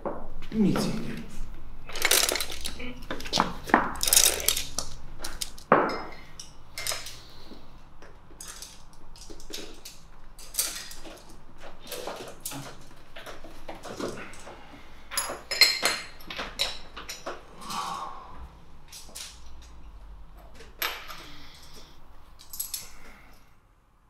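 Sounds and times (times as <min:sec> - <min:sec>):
paintbrushes clattering on wooden floor: 0:00.0 - 0:17.9, 0:18.8 - 0:23.3.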